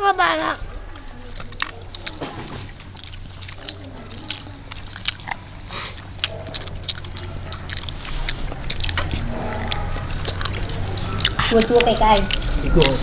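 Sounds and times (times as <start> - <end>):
chewing and biting food: 0.7 - 13.0.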